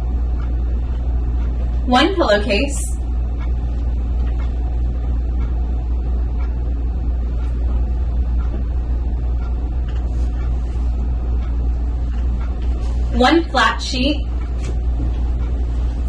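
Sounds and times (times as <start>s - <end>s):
low room rumble: 0.0s - 16.0s.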